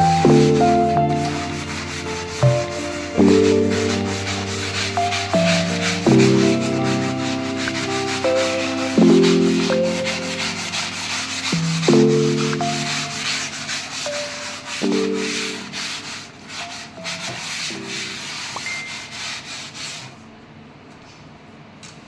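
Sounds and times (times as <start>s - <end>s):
soft instrumental music: 0.0s - 19.0s
scrubbing on cabinet surface: 0.0s - 20.2s.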